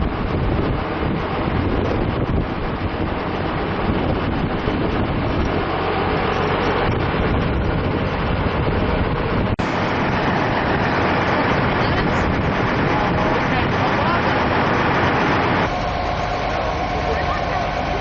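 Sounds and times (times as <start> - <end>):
outdoor rumbling noise: 0.0 - 18.0.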